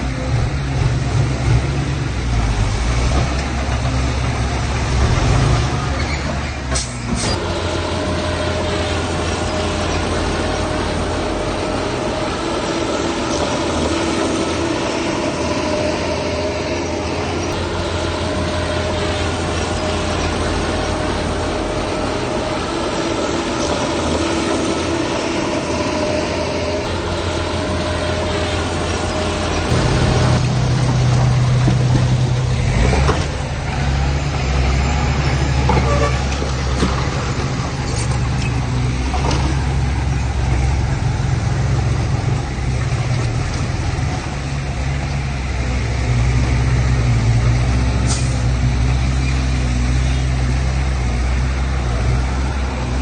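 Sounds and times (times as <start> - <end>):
engine whine: 0.0 - 53.0
heavy machinery engine running: 0.0 - 53.0.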